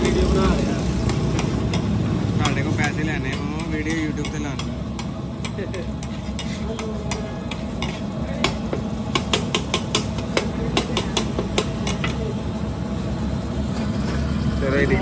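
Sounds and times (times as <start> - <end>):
metal spatula striking griddle: 0.0 - 12.2.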